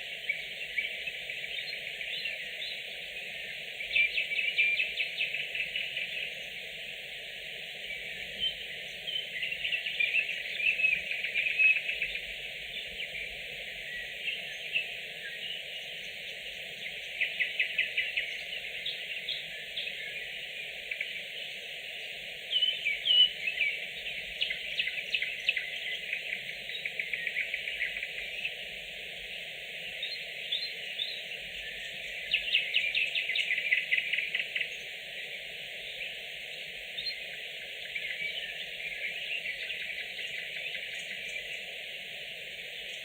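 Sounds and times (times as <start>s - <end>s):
nightingale singing: 0.0s - 6.7s, 7.7s - 43.0s
background hiss: 0.0s - 43.0s.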